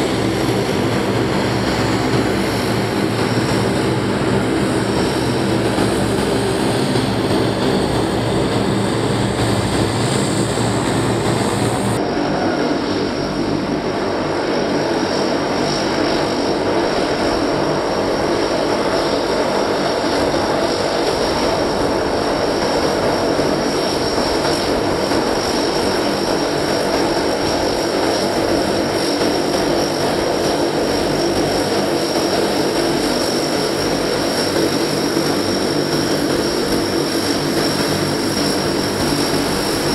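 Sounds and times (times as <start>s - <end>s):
turboprop aircraft engines: 0.0s - 39.9s.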